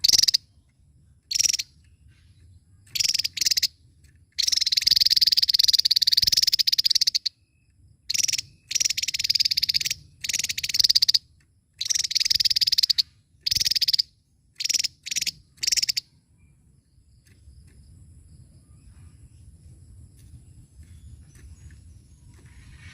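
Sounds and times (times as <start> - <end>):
bird singing high trills: 0.0 - 19.7.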